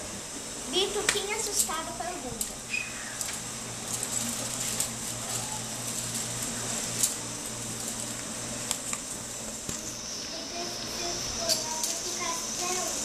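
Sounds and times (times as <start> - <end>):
high hiss: 0.0 - 13.0
low electrical hum: 0.0 - 13.0.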